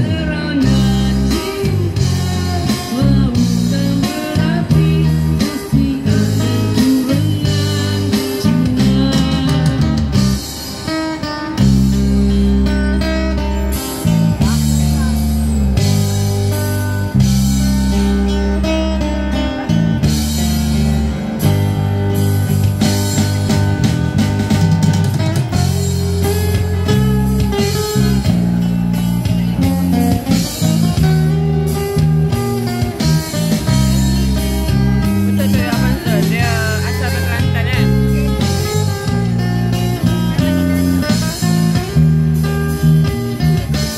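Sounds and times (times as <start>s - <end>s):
held low bass notes: 0.0s - 10.6s, 11.3s - 43.9s
acoustic guitar: 0.0s - 43.9s
electric guitar: 0.0s - 43.9s
keyboard playing: 0.0s - 43.9s.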